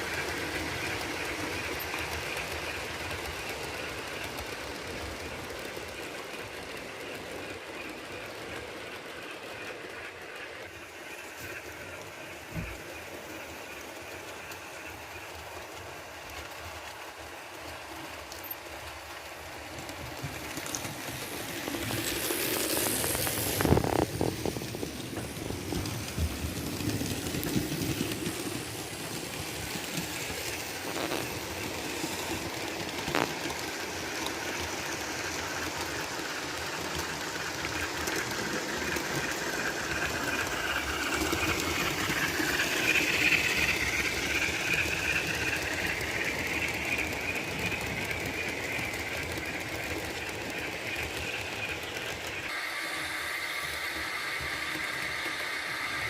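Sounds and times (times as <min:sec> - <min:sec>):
model steam locomotive chuffing: 0:00.0 - 0:56.0
wheels clicking on track: 0:00.0 - 0:56.0.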